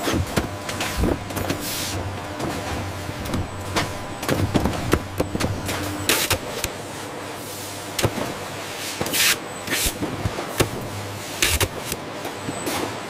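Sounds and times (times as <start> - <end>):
carton-taping machine noise: 0.0 - 12.3.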